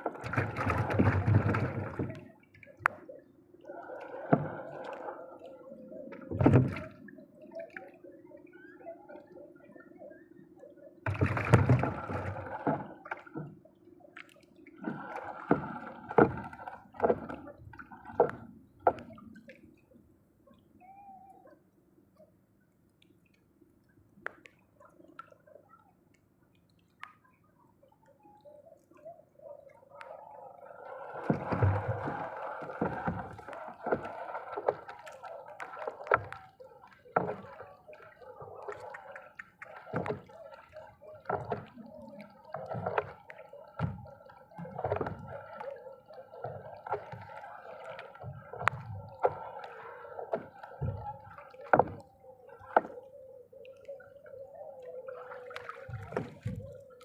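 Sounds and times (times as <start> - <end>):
water gurgling and bubbling: 0.0 - 13.7, 14.6 - 19.6, 29.0 - 57.0.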